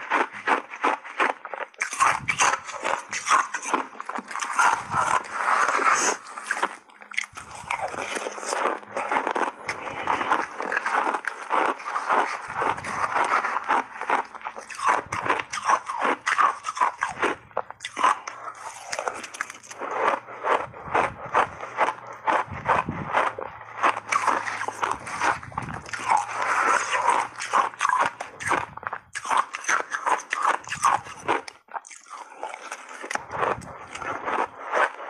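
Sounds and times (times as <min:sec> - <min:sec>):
ice being chewed with crunches: 0:00.0 - 0:35.0.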